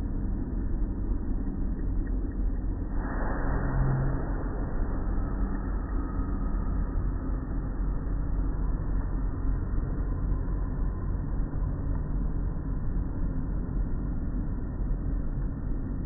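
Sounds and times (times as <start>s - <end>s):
muffled car wash machinery rumble: 0.0s - 16.0s.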